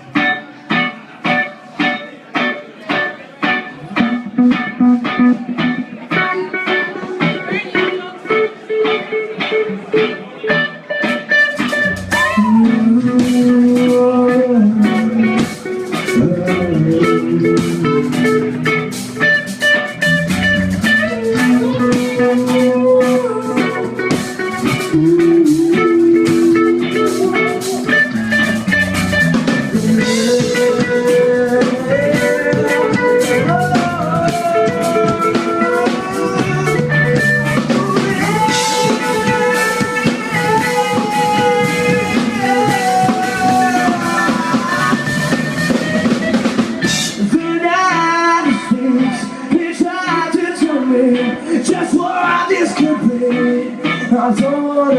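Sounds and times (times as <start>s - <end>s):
drum kit: 0.0s - 49.2s
electric guitar melody: 0.0s - 54.9s.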